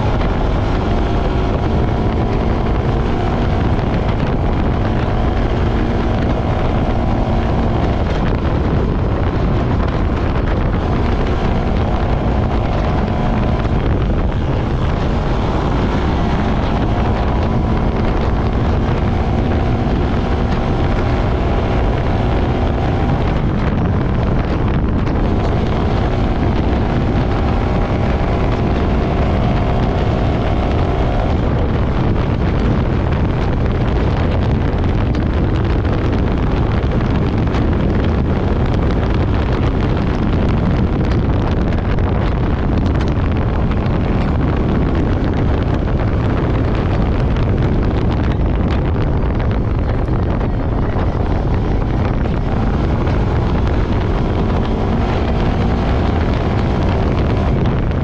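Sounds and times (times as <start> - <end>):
quad bike engine running: 0.0 - 58.0
wind rumble on microphone: 0.0 - 58.0.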